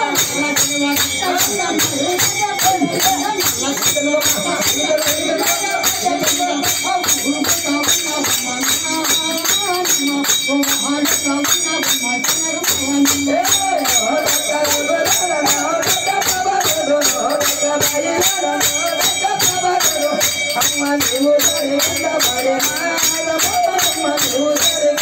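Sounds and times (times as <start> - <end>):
person singing a chant: 0.0 - 25.0.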